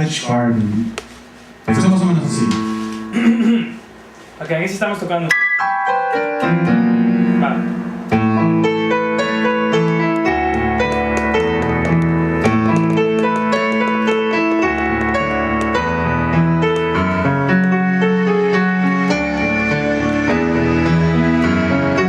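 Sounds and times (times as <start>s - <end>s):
piano playing slow chords: 0.8s - 22.0s.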